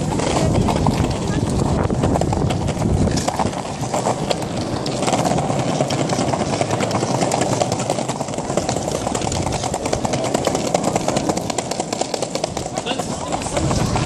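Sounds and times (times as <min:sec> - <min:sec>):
wheels clicking over joints: 0:00.0 - 0:14.0
wheels rolling on stone paving: 0:00.0 - 0:14.0.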